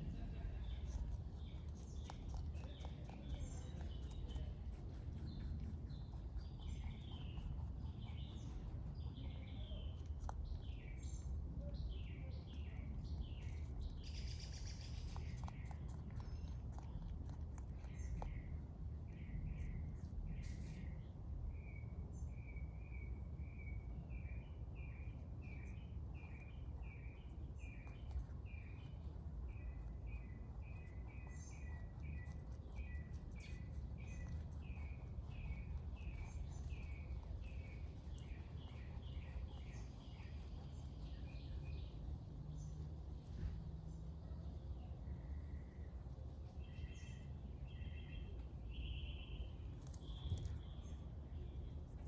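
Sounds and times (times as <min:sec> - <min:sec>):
low outdoor background hum: 0:00.0 - 0:52.0
bird chirping: 0:00.2 - 0:43.3, 0:46.5 - 0:52.0.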